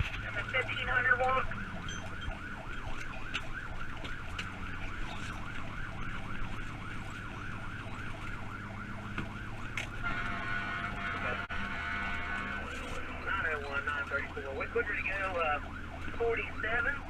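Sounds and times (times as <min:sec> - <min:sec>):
siren yelping: 0:00.0 - 0:17.0.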